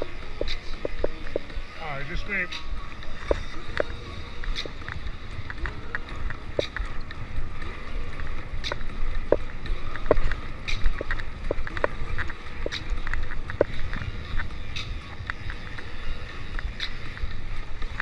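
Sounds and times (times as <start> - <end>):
wind rumble on microphone: 0.0 - 18.0
bike clicks and rattles: 2.6 - 18.0.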